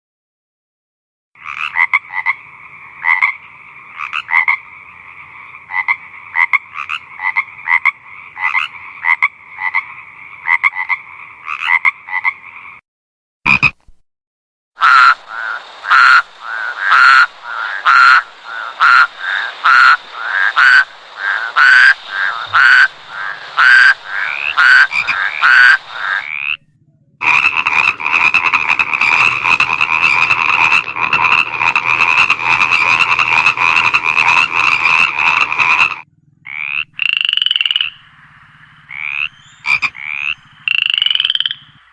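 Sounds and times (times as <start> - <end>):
frogs croaking in chorus: 1.4 - 12.8, 14.8 - 41.9
loud individual frog croaks: 1.4 - 12.8, 13.5 - 13.8, 14.8 - 41.9.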